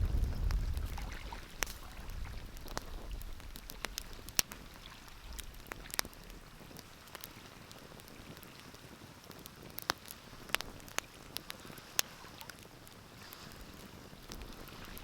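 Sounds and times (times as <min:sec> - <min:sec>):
faint steady hiss: 0:00.0 - 0:15.0
wood fire crackling and popping: 0:00.0 - 0:15.0.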